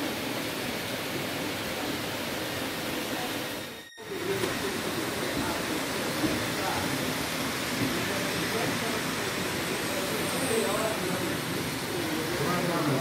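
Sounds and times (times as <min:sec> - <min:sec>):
model train wheels on track: 0:00.0 - 0:13.0.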